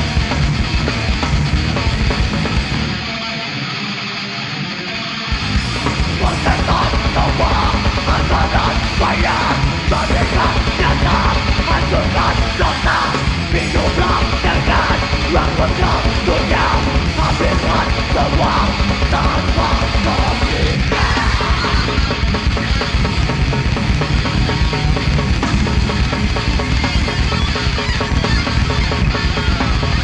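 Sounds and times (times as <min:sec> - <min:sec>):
heavy metal band playing: 0:00.0 - 0:30.0
yelled vocals: 0:05.3 - 0:30.0.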